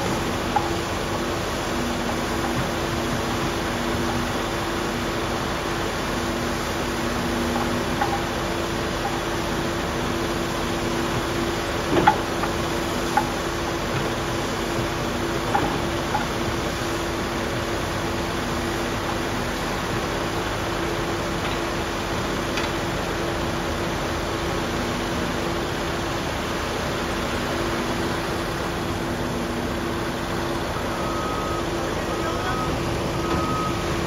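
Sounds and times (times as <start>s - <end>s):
machinery engine hum: 0.0s - 34.0s.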